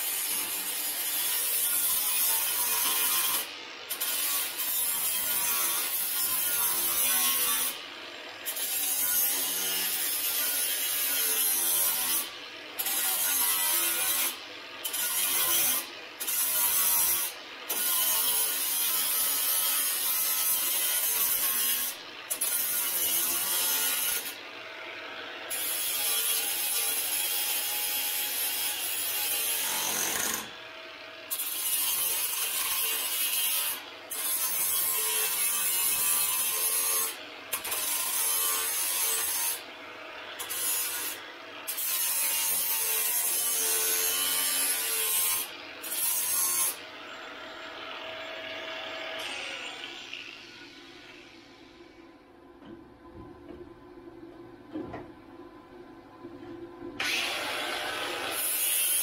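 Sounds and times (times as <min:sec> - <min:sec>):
angle grinder grinding metal: 0:00.0 - 0:24.5, 0:25.2 - 0:30.7, 0:31.3 - 0:51.5, 0:57.0 - 0:59.0.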